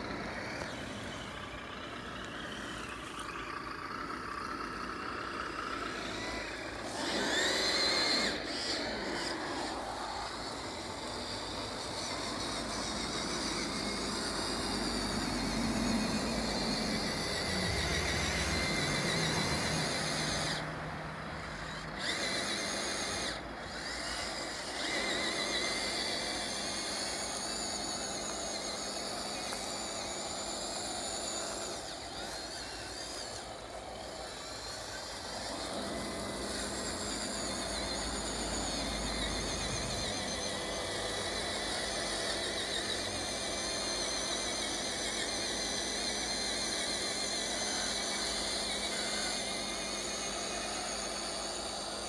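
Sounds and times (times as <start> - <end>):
toy truck motor whining: 0.0 - 52.0.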